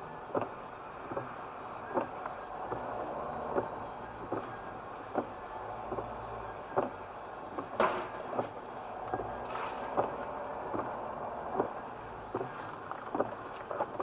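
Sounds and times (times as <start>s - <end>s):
vehicle running noise: 0.0s - 14.0s.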